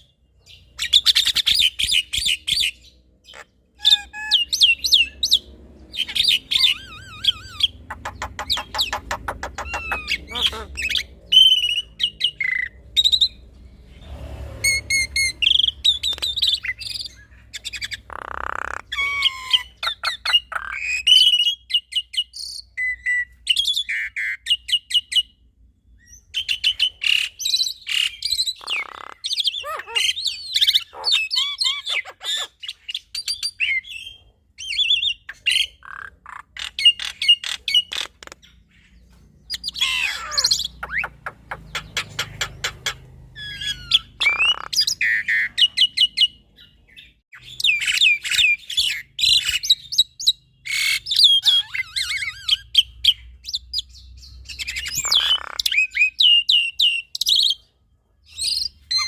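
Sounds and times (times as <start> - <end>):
birds singing whistles and trills: 0.0 - 59.0.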